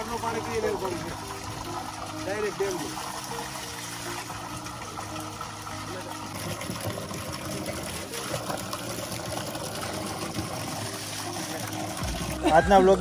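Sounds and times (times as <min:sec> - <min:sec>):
water splashing into tank: 0:00.0 - 0:12.6
soft background music: 0:00.0 - 0:13.0
water gushing from hose: 0:00.0 - 0:13.0.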